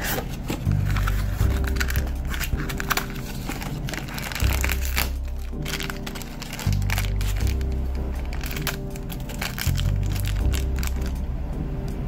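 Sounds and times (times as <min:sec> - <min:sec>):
plastic bag crinkling: 0:00.0 - 0:11.2
background music with low notes: 0:00.0 - 0:12.0.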